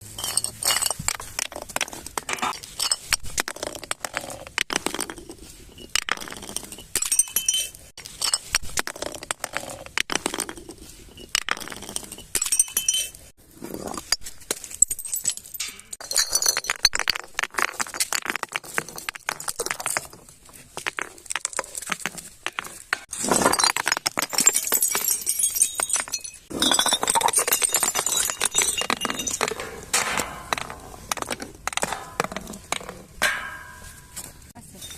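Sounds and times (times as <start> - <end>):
glass bottles clinking and shattering: 0.1 - 3.2, 6.1 - 8.6, 11.4 - 21.9, 23.0 - 34.9
glass crunching: 0.2 - 34.9.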